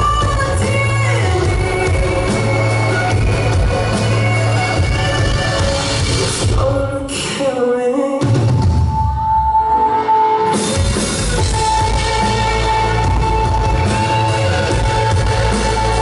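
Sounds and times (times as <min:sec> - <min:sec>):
live rock band music: 0:00.0 - 0:07.6, 0:08.2 - 0:16.0.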